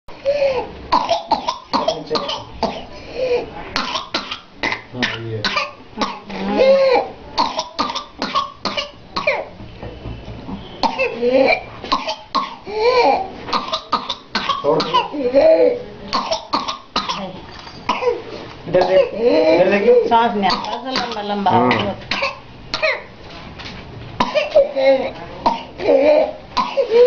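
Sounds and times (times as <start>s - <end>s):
child coughing rapidly: 0.4s - 9.5s, 10.8s - 23.1s, 24.2s - 27.0s.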